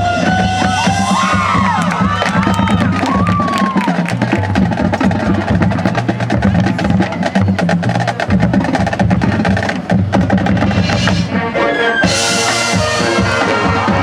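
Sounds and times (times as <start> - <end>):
marching band music: 0.0 - 14.0.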